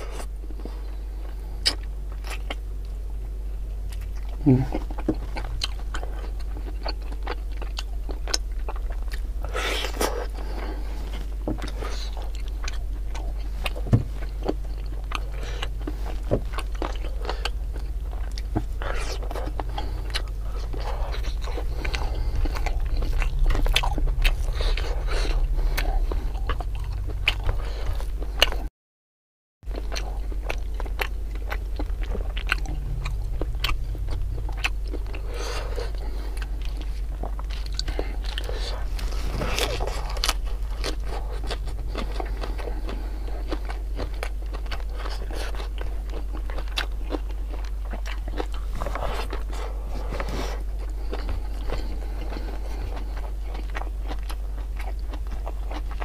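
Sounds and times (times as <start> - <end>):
chewing and crunchy biting: 0.0 - 28.7, 29.7 - 56.0
steady low hum: 0.0 - 28.7, 29.6 - 56.0.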